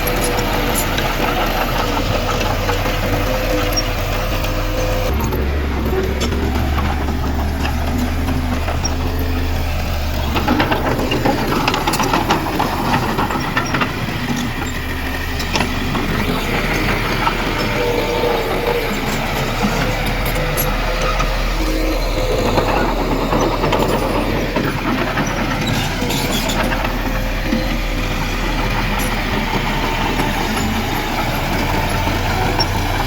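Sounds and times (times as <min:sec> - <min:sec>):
heavy diesel machinery running: 0:00.0 - 0:33.0
rattles and knocks: 0:00.0 - 0:33.0.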